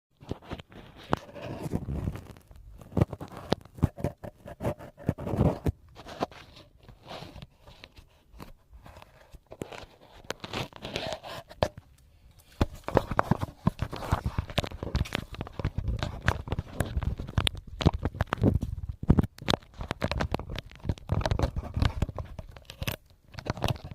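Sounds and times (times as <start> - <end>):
crinkly material crumpling: 0.2 - 23.9.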